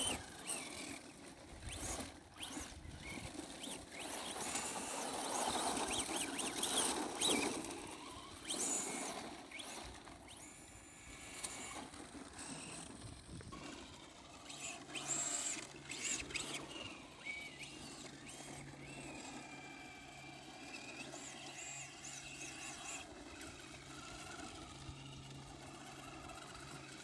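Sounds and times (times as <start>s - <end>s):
toy car electric motor whining: 0.0s - 27.0s.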